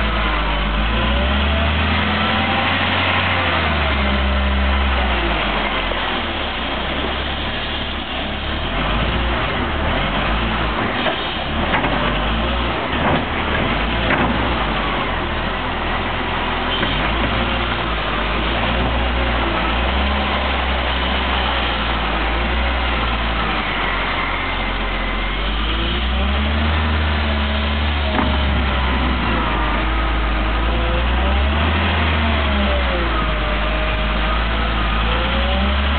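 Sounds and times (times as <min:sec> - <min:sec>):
diesel truck engine running: 0:00.0 - 0:35.9
wheel loader diesel engine: 0:00.0 - 0:35.9.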